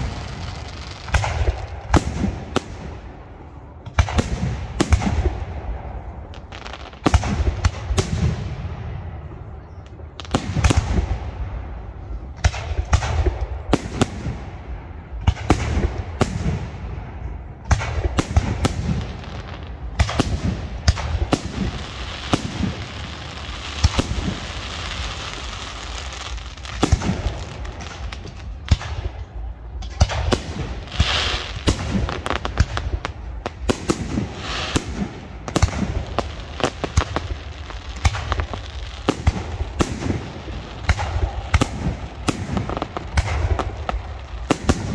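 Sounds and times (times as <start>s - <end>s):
fireworks hissing and crackling: 0.0s - 8.6s, 10.1s - 11.6s, 17.7s - 44.9s.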